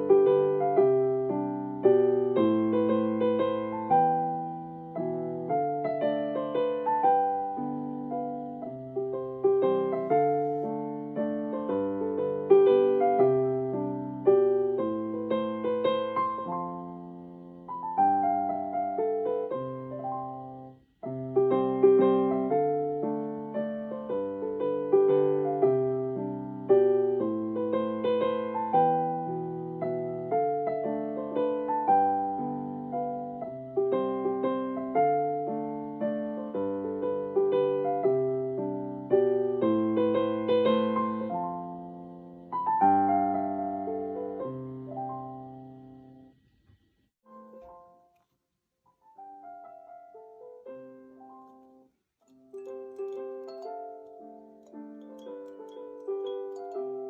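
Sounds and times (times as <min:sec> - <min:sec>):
gentle plucked piano-like music: 0:00.0 - 0:46.2, 0:47.3 - 0:48.2, 0:49.0 - 0:57.0.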